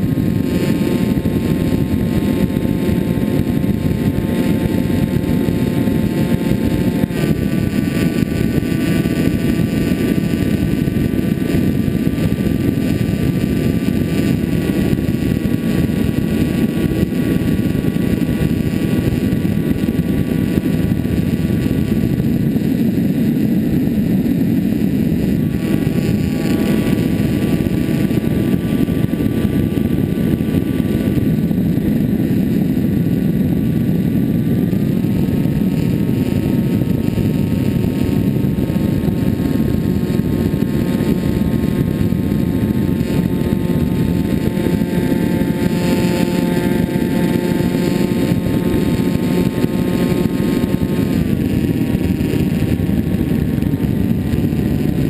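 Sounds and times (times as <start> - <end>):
air rushing over plane: 0.0 - 55.0
electric motor and propeller whining: 0.0 - 55.0.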